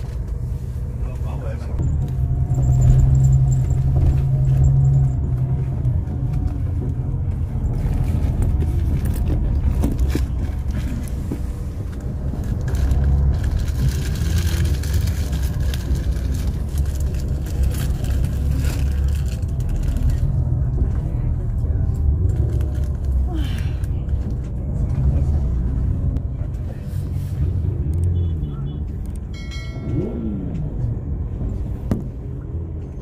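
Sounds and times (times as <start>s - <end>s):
bus engine rumble: 0.0s - 33.0s
road noise: 0.0s - 33.0s.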